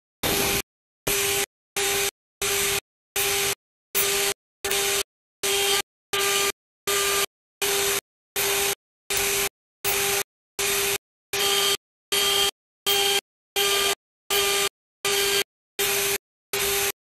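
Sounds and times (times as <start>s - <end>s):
engraving spindle cutting metal: 0.2s - 17.0s.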